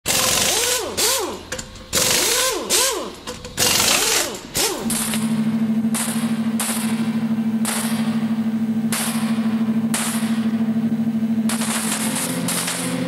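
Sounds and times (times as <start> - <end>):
engine revving: 0.1 - 1.4, 2.0 - 13.0
pulsing low hum: 0.1 - 13.0.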